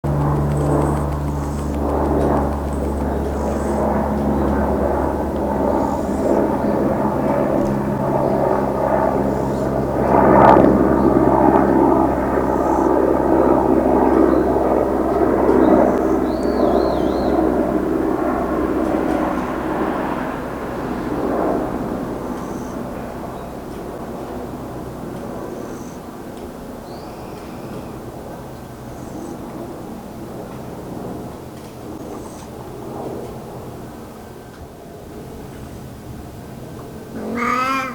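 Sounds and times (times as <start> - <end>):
steady engine drone: 0.0 - 37.9.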